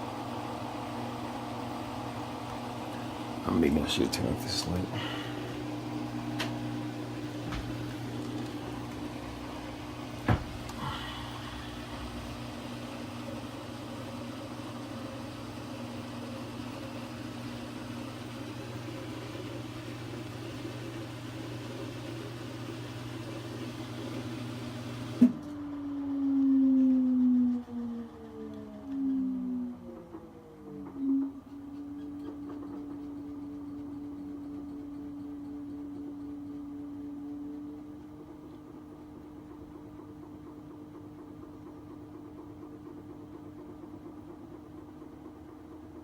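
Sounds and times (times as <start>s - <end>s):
washing machine humming: 0.0s - 46.0s.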